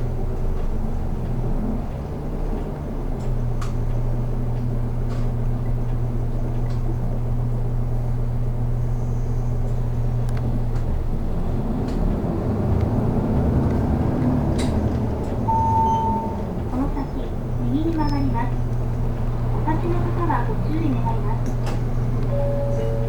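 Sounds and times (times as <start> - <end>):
bus engine hum: 0.0 - 23.0.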